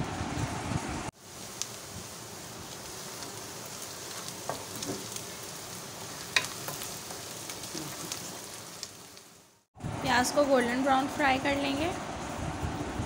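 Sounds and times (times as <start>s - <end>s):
onions sizzling in hot oil: 1.1s - 12.4s.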